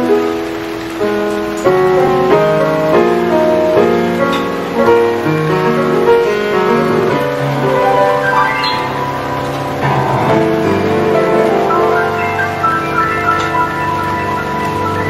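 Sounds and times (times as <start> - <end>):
slow piano chords and melody: 0.0 - 15.0.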